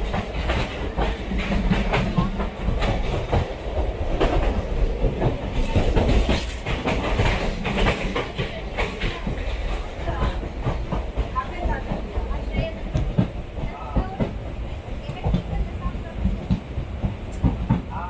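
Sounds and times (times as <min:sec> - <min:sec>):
low rumble of train on track: 0:00.0 - 0:18.0
train wheels clattering over rail joints: 0:00.0 - 0:18.0.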